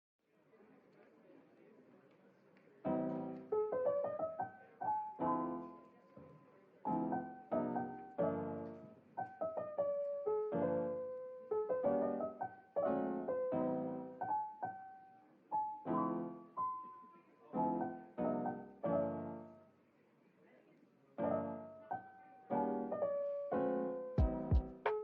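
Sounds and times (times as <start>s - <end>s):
solo piano music: 2.9s - 19.8s, 21.2s - 25.0s.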